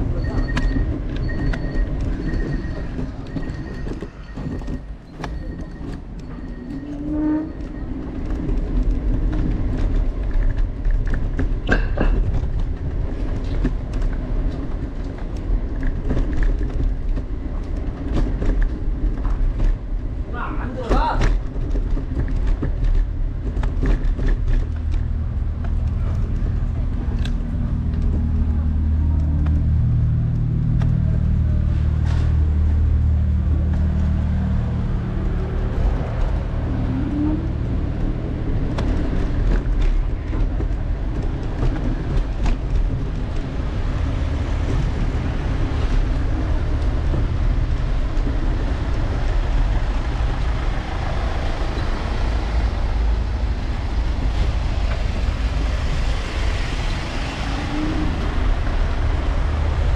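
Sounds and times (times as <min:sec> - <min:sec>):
traffic rumble: 0:00.0 - 0:59.9
vehicle engine humming: 0:00.0 - 0:59.9.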